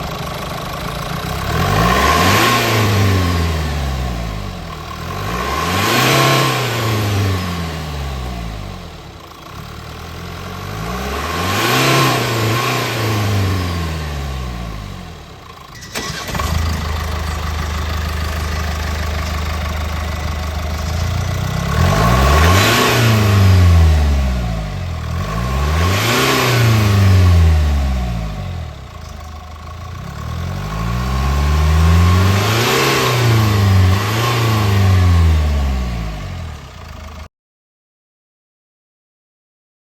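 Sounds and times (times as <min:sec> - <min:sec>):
diesel engine revving: 0:00.0 - 0:37.3.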